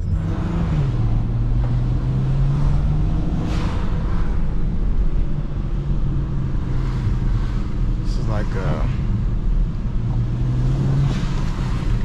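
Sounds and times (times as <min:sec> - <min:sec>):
car engine pulling: 0:00.0 - 0:12.0
road noise: 0:00.0 - 0:12.0.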